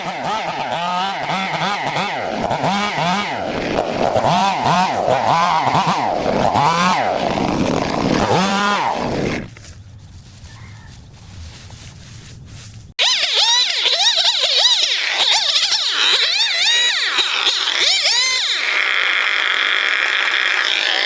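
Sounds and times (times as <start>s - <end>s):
small engine revving: 0.0s - 9.6s, 13.0s - 21.0s.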